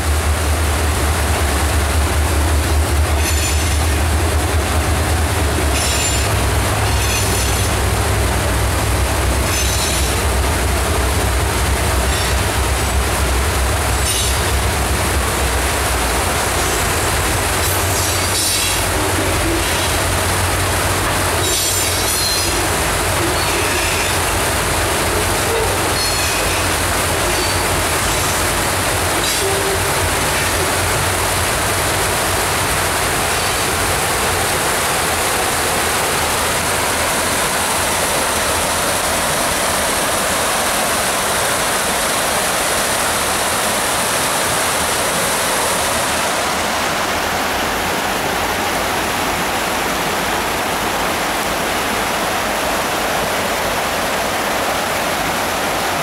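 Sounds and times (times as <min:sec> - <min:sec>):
freight cars rumbling on trestle: 0:00.0 - 0:52.8
creek water rushing over rocks: 0:00.0 - 0:56.0.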